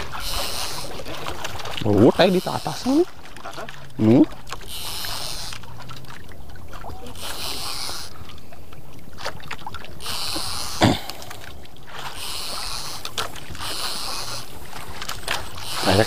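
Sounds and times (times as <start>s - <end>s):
fishing reel whirring: 0.0s - 5.9s, 6.9s - 8.4s, 9.9s - 16.0s
water moving against boat: 0.0s - 16.0s.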